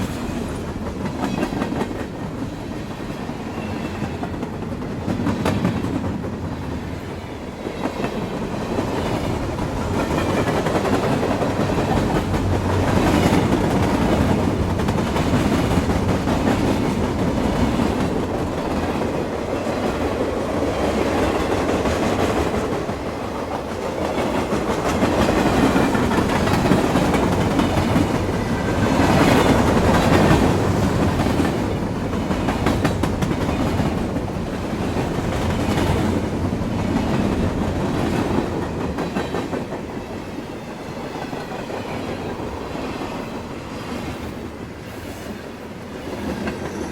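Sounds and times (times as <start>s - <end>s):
train rumble: 0.0s - 46.9s
train wheels clacking on rails: 0.0s - 46.9s.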